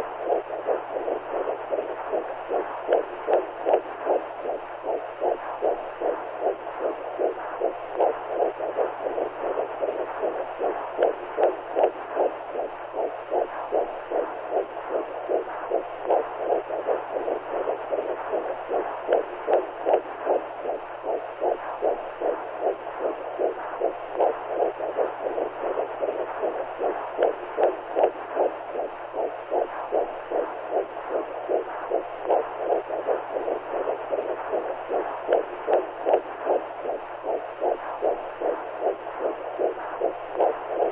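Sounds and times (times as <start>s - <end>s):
constant low hum: 0.0s - 40.9s
rhythmic whooshing pulses: 0.0s - 40.9s.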